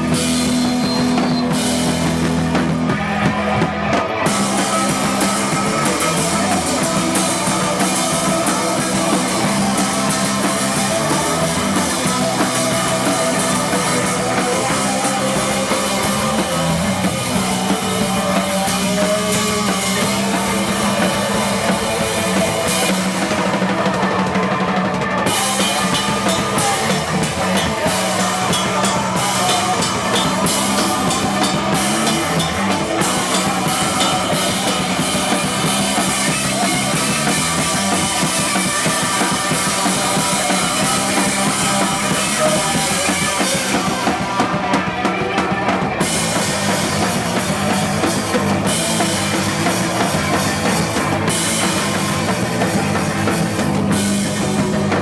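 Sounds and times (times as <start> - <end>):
drum kit: 0.0 - 55.0
live rock band playing: 0.0 - 55.0.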